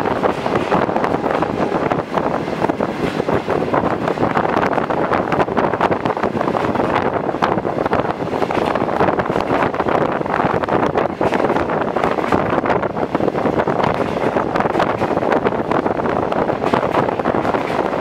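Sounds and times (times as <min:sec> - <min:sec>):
train running on track: 0:00.0 - 0:18.0
wind buffeting microphone: 0:00.0 - 0:18.0.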